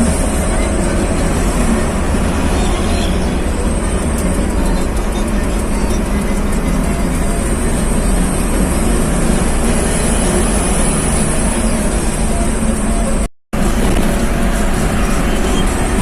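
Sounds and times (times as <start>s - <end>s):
road noise: 0.0s - 16.0s
truck engine and exhaust droning: 0.0s - 16.0s.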